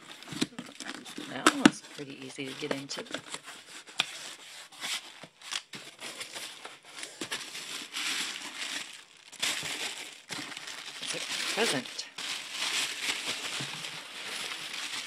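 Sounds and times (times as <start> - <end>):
paper packaging crinkling: 0.0 - 15.0.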